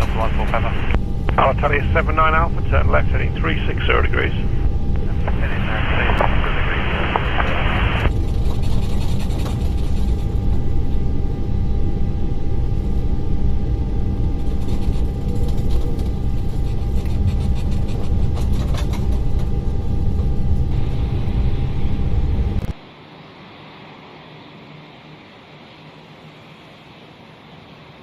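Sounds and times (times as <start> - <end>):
aircraft cabin engine rumble: 0.0 - 27.9.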